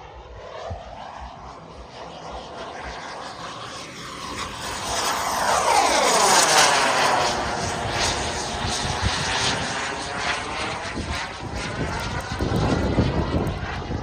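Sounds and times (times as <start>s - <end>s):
model jet turbine whooshing: 0.0s - 14.0s.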